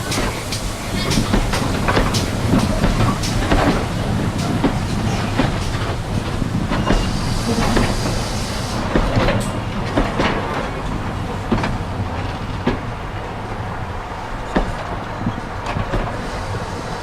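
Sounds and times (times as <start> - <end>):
steam hiss: 0.0 - 12.9, 14.6 - 17.0
train rumble: 0.0 - 17.0
wheels clicking over rail joints: 0.0 - 17.0.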